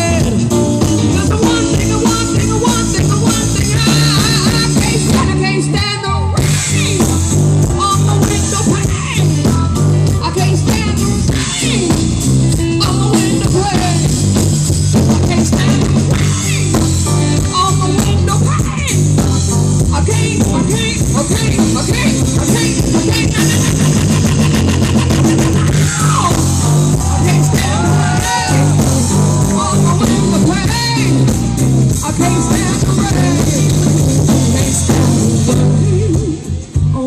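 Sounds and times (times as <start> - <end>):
blues band playing instrumental: 0.0 - 37.0.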